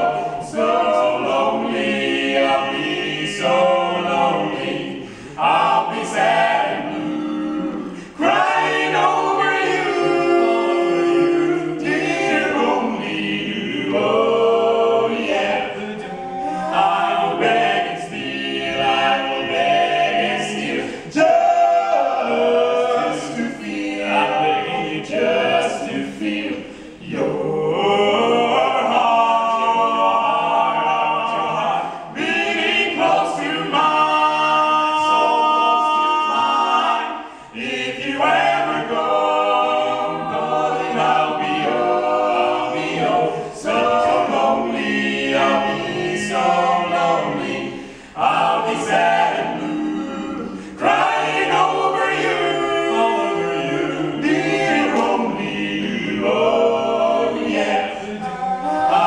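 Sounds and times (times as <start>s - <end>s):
male voices singing in harmony: 0.0s - 59.0s.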